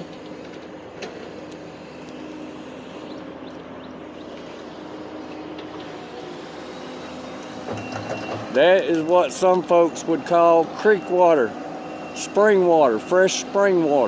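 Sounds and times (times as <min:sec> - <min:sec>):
highway traffic rushing past: 0:00.0 - 0:14.0.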